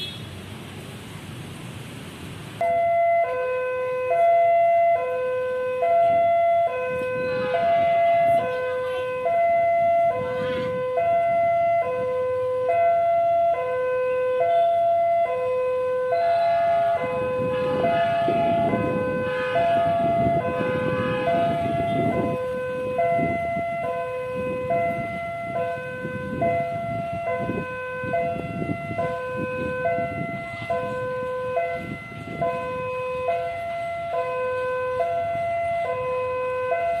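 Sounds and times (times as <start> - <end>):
level crossing two-tone alarm: 2.6 - 37.0.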